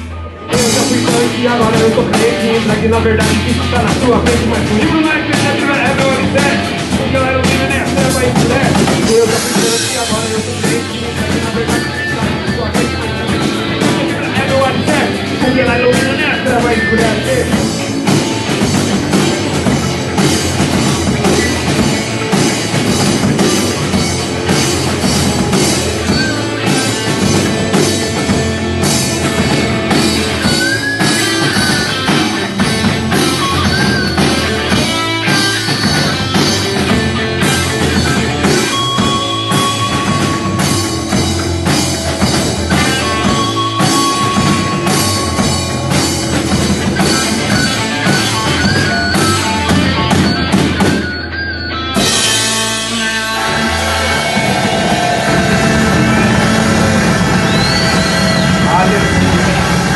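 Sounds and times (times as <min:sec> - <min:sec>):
bending guitar lead notes: 0:00.0 - 0:59.9
instrumental punk rock: 0:00.0 - 0:59.9.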